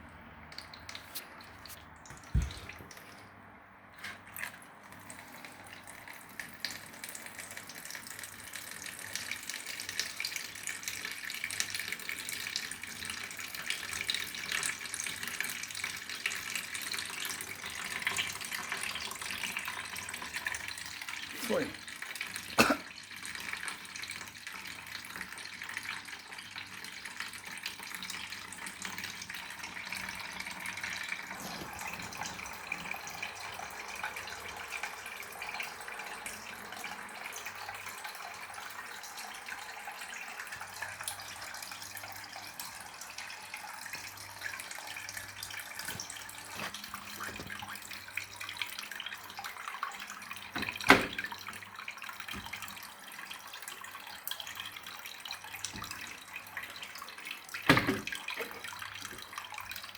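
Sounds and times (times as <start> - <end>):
water running and trickling: 0.5 - 3.4, 4.1 - 59.9.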